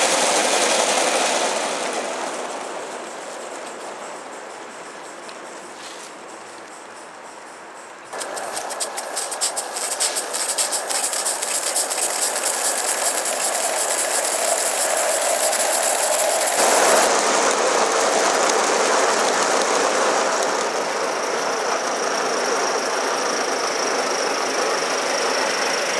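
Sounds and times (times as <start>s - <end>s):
model train clicking over track: 0.0s - 5.9s, 8.1s - 25.9s
steam hiss: 0.0s - 6.5s, 7.9s - 25.9s.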